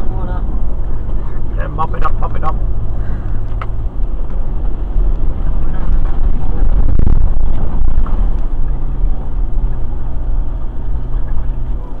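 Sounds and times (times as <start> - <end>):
engine rumbling under load: 0.0 - 12.0.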